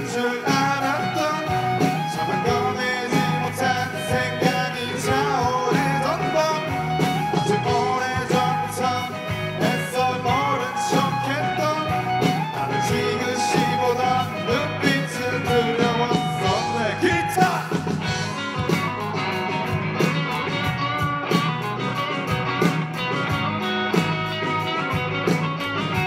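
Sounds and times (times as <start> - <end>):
bass guitar: 0.0 - 26.0
drum kit: 0.0 - 26.0
electric guitars: 0.0 - 26.0.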